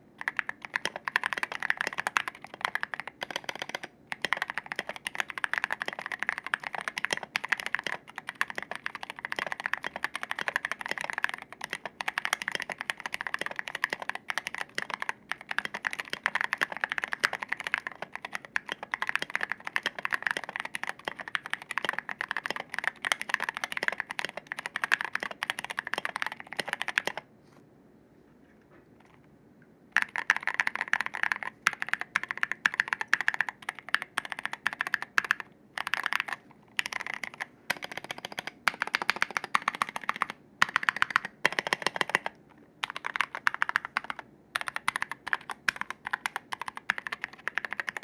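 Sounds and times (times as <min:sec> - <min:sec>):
fast mechanical keyboard typing: 0:00.0 - 0:27.2, 0:30.0 - 0:48.0.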